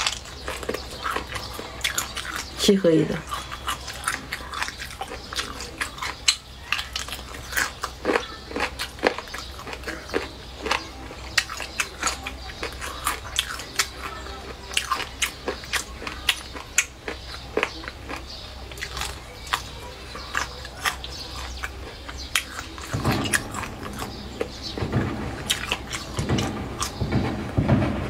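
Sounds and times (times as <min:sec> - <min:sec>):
biting and chewing mouth sounds: 0:00.0 - 0:27.8.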